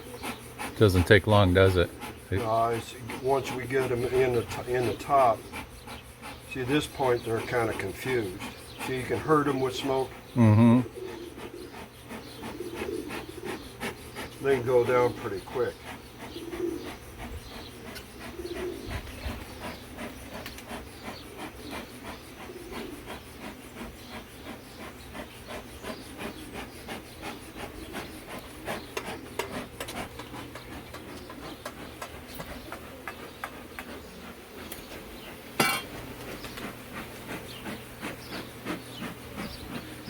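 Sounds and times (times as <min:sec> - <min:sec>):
wood scraping on wood: 0:00.0 - 0:40.0.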